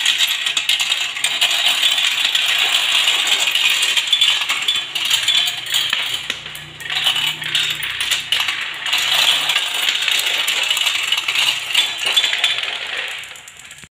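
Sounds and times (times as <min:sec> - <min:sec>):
marbles rattling down a marble run: 0:00.0 - 0:13.9.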